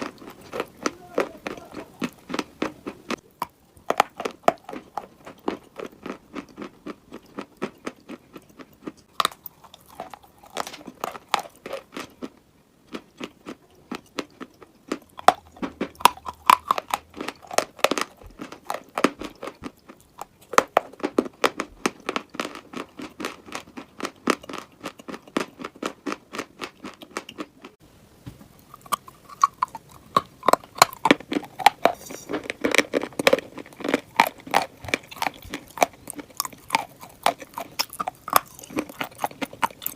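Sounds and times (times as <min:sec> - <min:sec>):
person chewing crunchy material: 0:00.0 - 0:27.8, 0:28.5 - 0:39.9.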